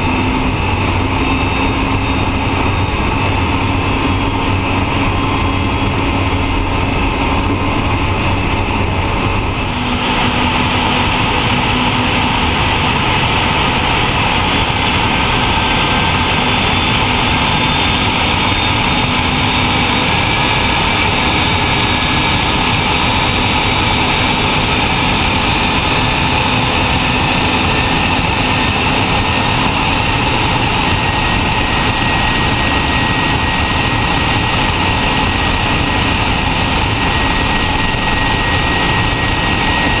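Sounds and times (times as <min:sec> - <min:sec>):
high engine whine: 0:00.0 - 0:40.0
jet engines roaring: 0:00.0 - 0:40.0.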